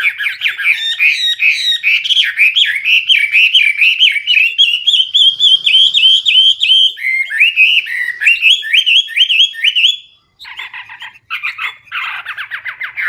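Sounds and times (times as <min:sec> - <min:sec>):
bird whistled song: 0:00.0 - 0:13.0
harsh buzzy bird phrases: 0:00.0 - 0:13.0.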